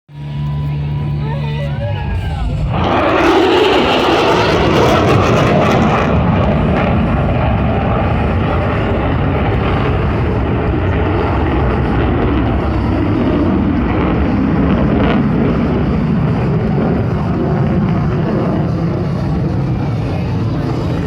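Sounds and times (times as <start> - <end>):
airplane engine rumbling: 0.1 - 21.0.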